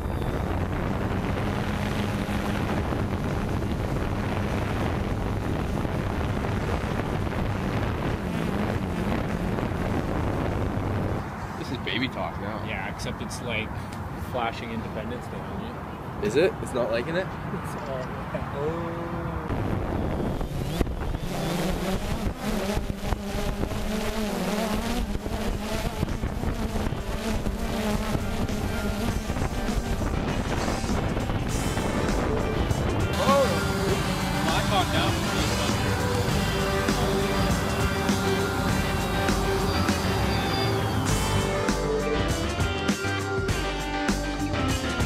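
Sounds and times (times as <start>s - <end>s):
drone propellers buzzing: 0.0s - 13.8s, 18.2s - 45.0s
wind rushing over microphone: 0.0s - 41.6s.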